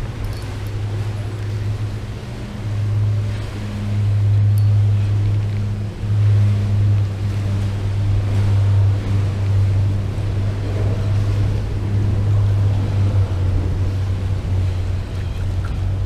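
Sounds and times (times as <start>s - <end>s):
outboard motor idling: 0.0s - 16.0s
water wash: 0.0s - 16.0s
wind on microphone: 0.0s - 16.0s.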